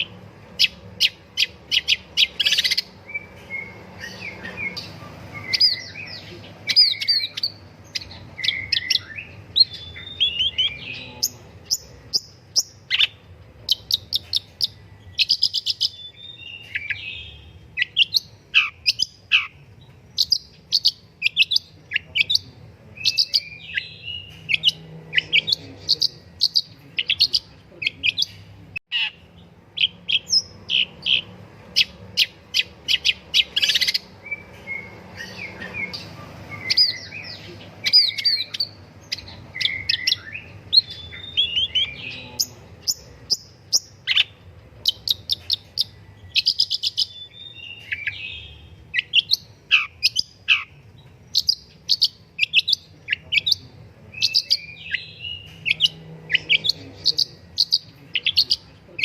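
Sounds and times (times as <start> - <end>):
bird singing sharp chirps: 0.0 - 53.6.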